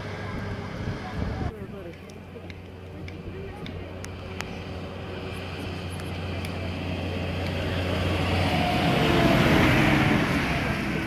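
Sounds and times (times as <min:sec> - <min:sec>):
tractor diesel engine passing: 0:00.0 - 0:11.0.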